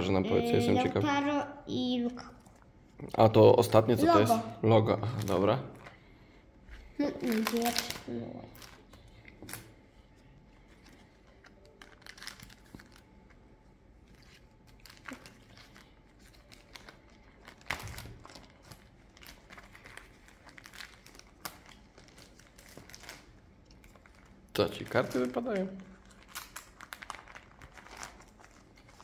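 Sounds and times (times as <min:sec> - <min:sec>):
plastic sleeves crinkling and rustling: 0:04.8 - 0:29.0.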